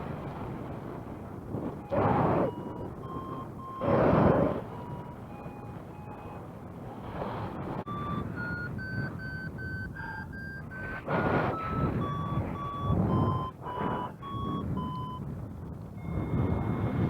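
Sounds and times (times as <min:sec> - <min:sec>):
wind on microphone: 0:00.0 - 0:17.0
variometer beeping: 0:01.6 - 0:06.9, 0:07.8 - 0:17.0.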